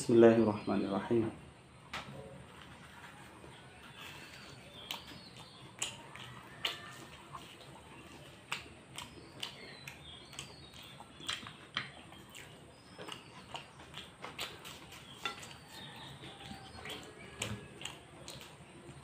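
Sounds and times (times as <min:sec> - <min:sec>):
crunchy food chewing: 0:02.5 - 0:19.0.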